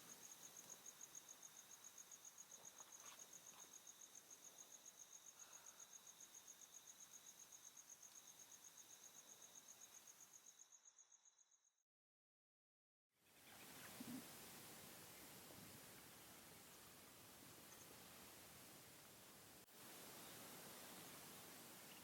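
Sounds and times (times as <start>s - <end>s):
cricket chirping faintly: 0.0s - 11.8s, 13.2s - 22.0s.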